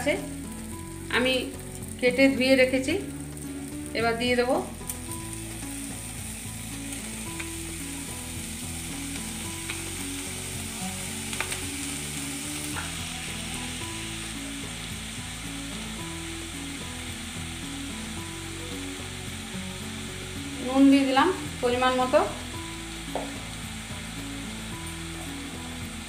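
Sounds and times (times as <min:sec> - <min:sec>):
onion greens sizzling in oil: 0:00.0 - 0:26.0.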